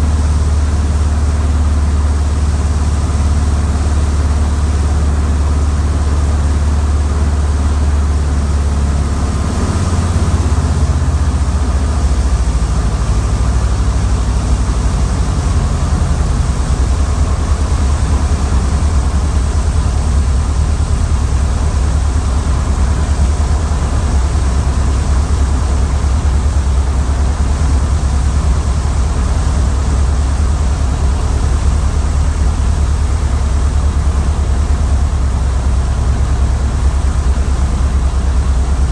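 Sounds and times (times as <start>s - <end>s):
airplane piston engine running: 0.0s - 38.9s.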